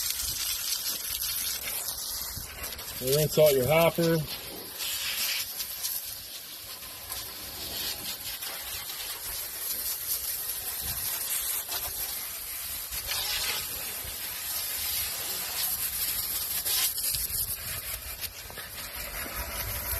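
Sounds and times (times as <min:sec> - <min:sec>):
hose spraying water on metal: 0:00.0 - 0:19.9.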